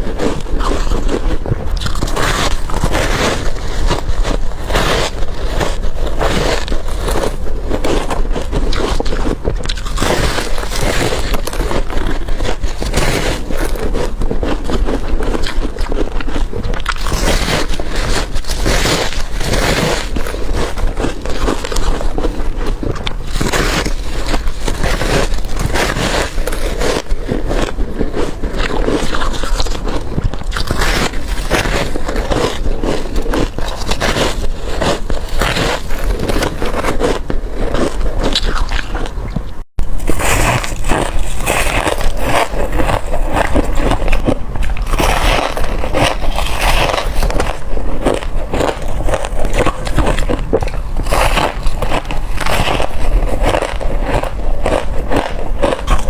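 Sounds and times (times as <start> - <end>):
person crunching ice: 0.0 - 56.0.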